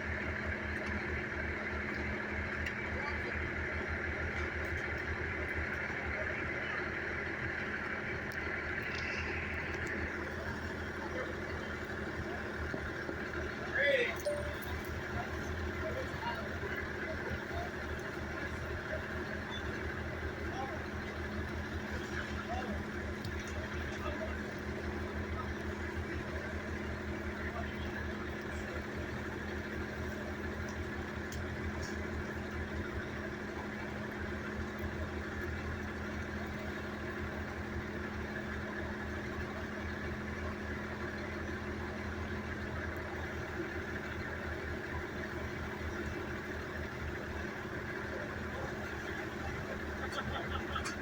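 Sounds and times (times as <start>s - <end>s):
vehicle engine idling: 0.0s - 51.0s.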